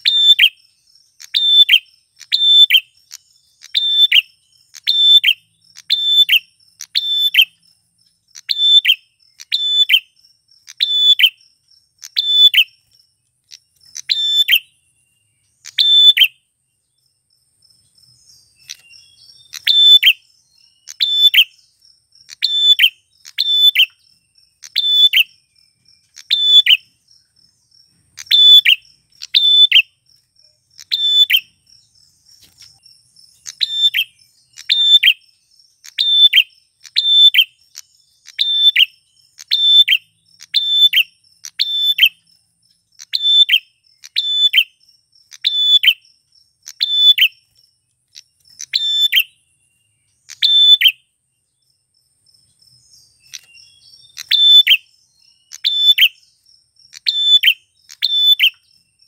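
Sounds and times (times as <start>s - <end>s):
bird calling: 0.0s - 7.6s, 8.3s - 14.8s, 15.4s - 16.4s, 18.2s - 27.3s, 27.9s - 42.2s, 42.9s - 49.4s, 50.1s - 51.0s, 53.0s - 58.9s.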